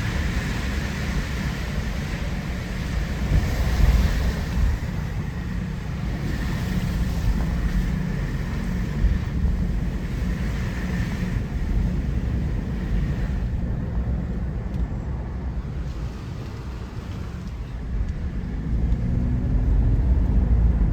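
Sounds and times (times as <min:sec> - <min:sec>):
car engine and tyres rumbling: 0:00.0 - 0:20.9.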